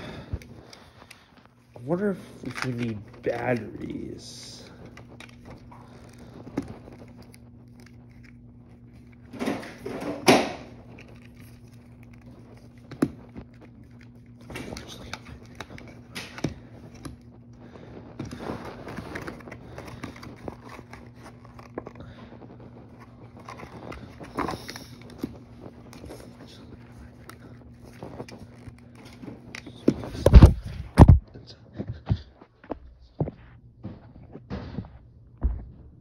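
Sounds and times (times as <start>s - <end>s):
plastic scraping: 0.0s - 31.1s
faint low hum: 0.0s - 36.0s.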